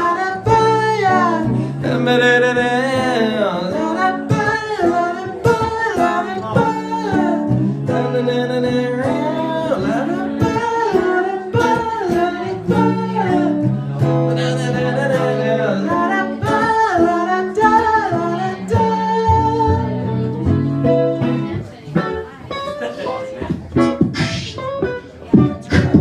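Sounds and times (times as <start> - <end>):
person singing: 0.0 - 21.3, 23.0 - 26.0
guitar accompaniment: 0.0 - 26.0.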